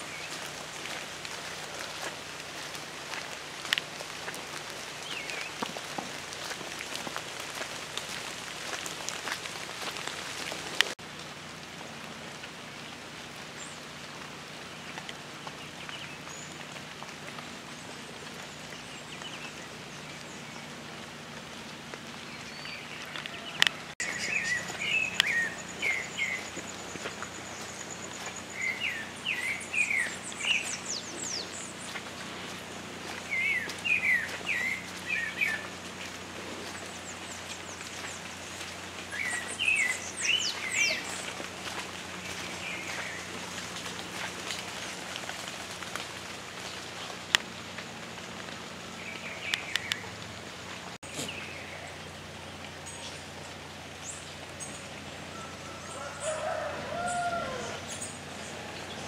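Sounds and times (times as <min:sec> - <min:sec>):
birds chirping: 0:00.0 - 0:11.0, 0:14.6 - 0:59.0
rain falling: 0:00.0 - 0:59.0.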